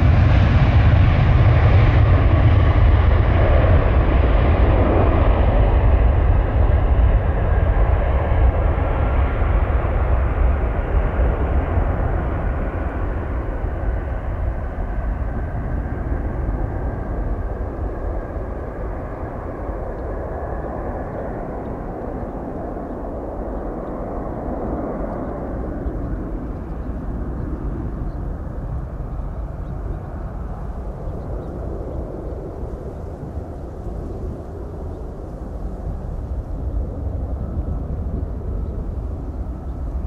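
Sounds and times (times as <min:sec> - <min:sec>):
airplane engines: 0:00.0 - 0:40.0.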